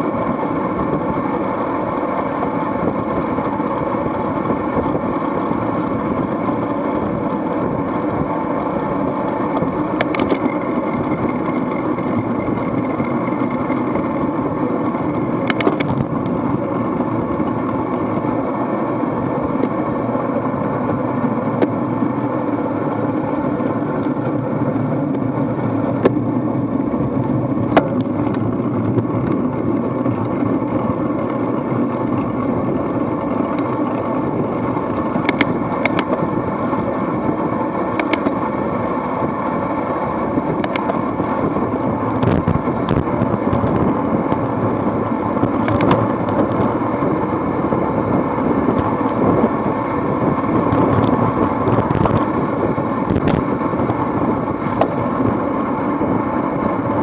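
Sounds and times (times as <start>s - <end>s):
bicycle tyre noise: 0.0s - 57.0s
wind rushing over microphone: 0.0s - 57.0s.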